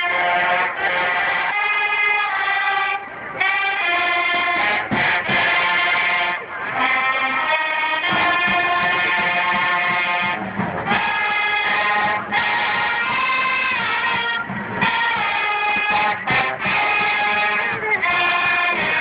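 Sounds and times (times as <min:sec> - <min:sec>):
marching band brass chords: 0:00.0 - 0:19.0.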